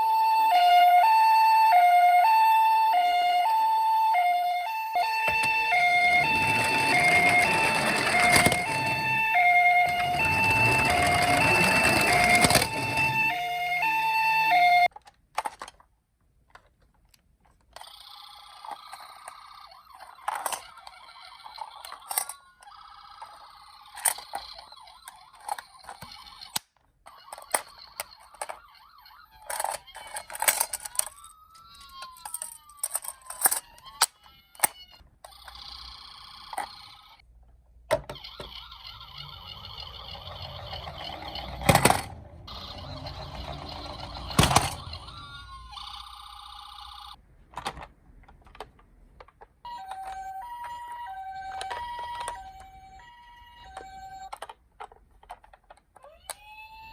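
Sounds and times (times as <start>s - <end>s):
toy siren wailing: 0.0s - 14.9s, 17.8s - 37.2s, 38.0s - 47.2s, 49.6s - 54.5s, 56.0s - 56.9s
toy cars clicking and knocking: 5.1s - 14.0s, 14.8s - 37.2s, 37.9s - 56.9s.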